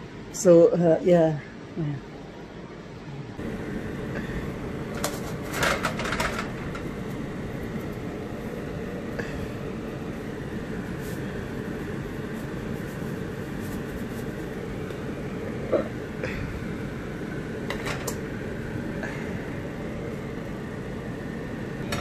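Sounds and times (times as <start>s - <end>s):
fan humming: 0.0s - 22.0s.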